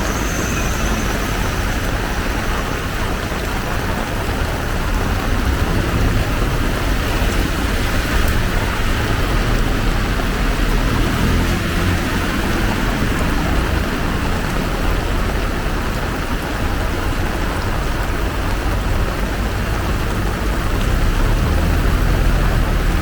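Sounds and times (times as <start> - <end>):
heavy rain pouring: 0.0 - 23.0
road traffic rumble: 0.0 - 23.0.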